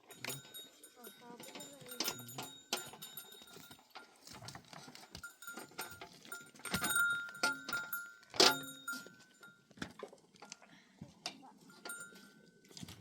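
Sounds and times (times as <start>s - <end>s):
livestock bell ringing: 0.0s - 9.8s, 11.5s - 12.7s.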